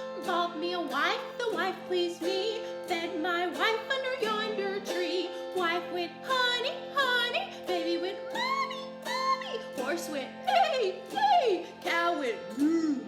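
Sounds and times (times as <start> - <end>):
sustained instrumental accompaniment: 0.0 - 13.0
woman singing: 0.0 - 13.0.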